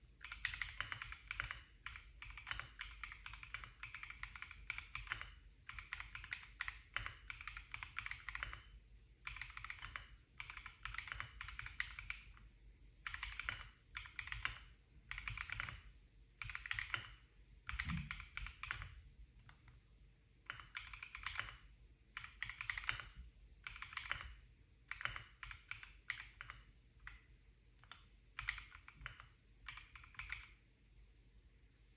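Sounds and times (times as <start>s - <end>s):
keyboard keystroke clicks: 0.2s - 12.4s, 13.0s - 19.8s, 20.5s - 21.6s, 22.2s - 30.6s.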